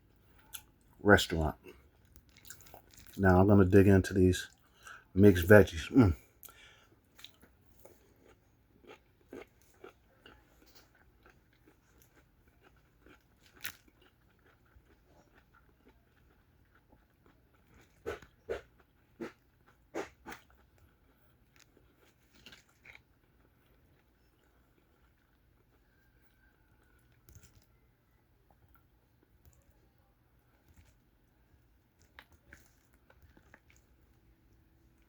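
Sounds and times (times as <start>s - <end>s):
chewing crunchy vegetables: 0.0s - 35.0s.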